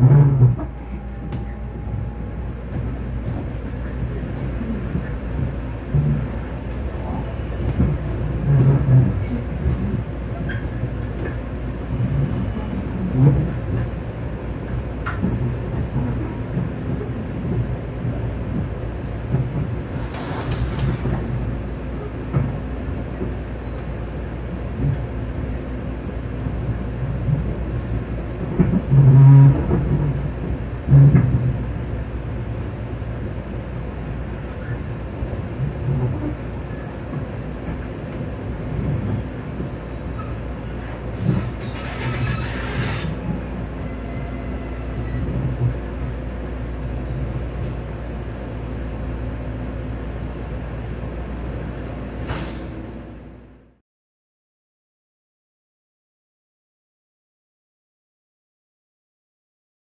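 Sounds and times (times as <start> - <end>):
train wheels rumbling on rails: 0.0 - 53.8.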